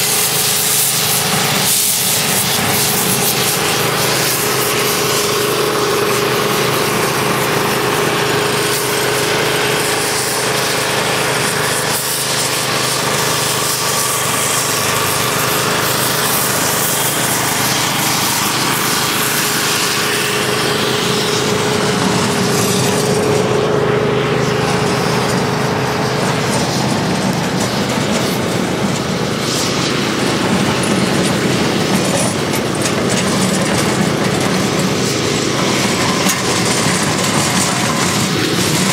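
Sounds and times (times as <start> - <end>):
hot-air lance blast: 0.0 - 38.9.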